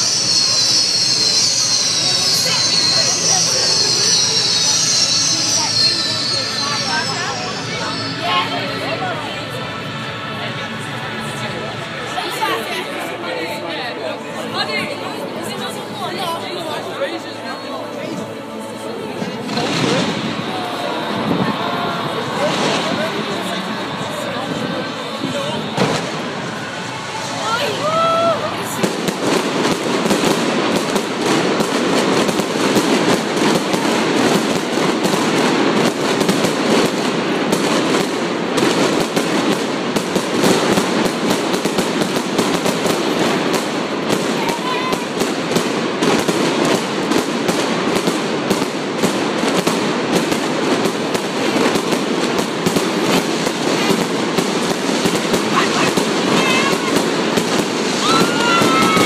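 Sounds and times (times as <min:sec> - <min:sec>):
fireworks crackling and popping: 0:00.0 - 0:09.5, 0:18.0 - 0:59.0.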